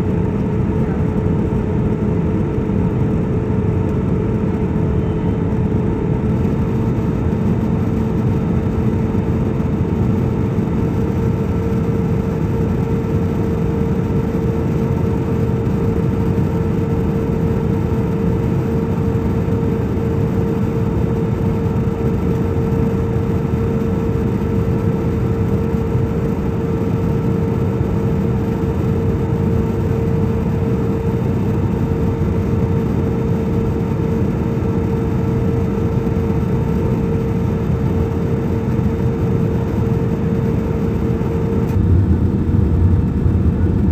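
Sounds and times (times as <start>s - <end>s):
airliner cabin engine drone: 0.0s - 43.9s
steady hum: 0.0s - 43.9s.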